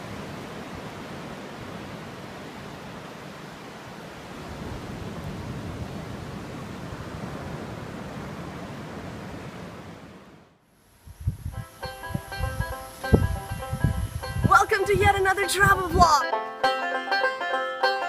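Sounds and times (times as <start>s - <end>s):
surf rushing: 0.0s - 16.2s
wind: 0.0s - 18.0s.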